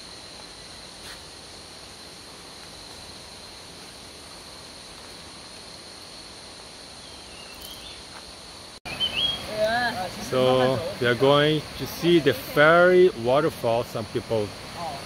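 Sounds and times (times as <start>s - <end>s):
even hiss: 0.0s - 15.0s
high-pitched insect drone: 0.0s - 15.0s.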